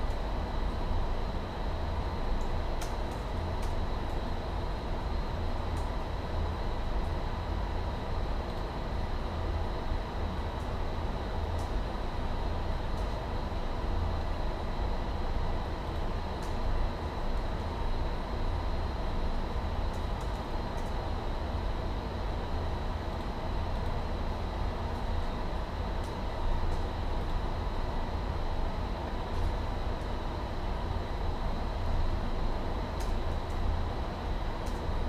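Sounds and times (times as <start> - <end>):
air conditioning rumble: 0.0 - 35.0.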